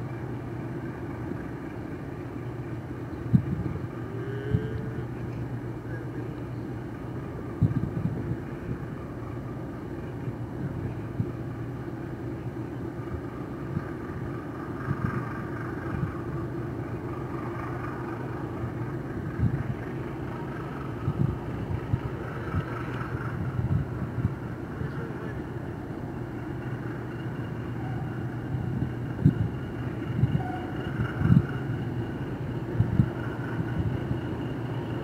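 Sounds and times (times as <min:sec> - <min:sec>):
boat engine humming: 0:00.0 - 0:35.0
wind buffeting microphone: 0:00.0 - 0:35.0.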